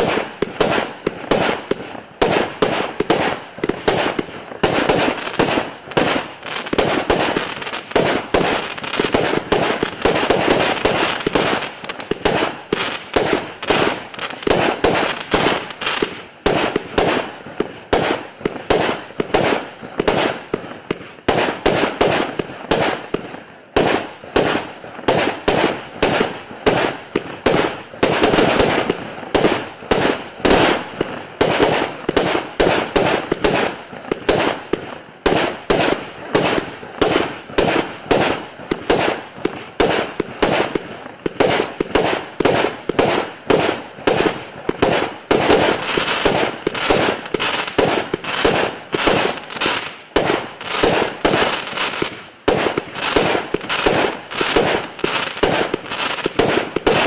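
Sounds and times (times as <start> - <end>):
firework cake firing shots: 0.0 - 57.0
firework star bursts: 0.0 - 57.0.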